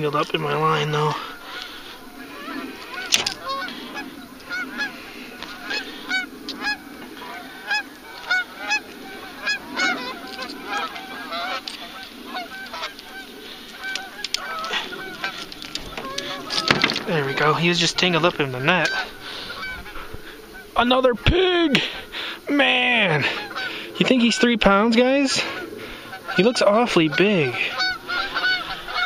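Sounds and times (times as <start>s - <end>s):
geese honking: 0.0s - 29.0s.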